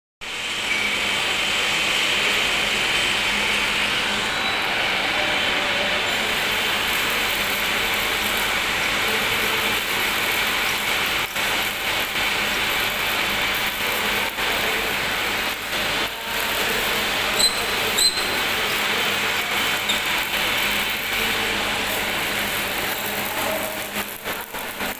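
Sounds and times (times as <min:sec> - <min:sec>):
welding arc crackling hiss: 0:00.2 - 0:24.9.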